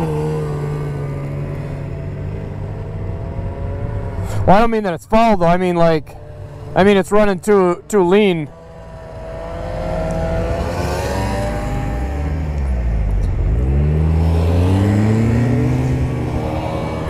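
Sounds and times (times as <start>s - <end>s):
snowmobiles riding past: 0.0s - 4.6s, 6.2s - 17.0s.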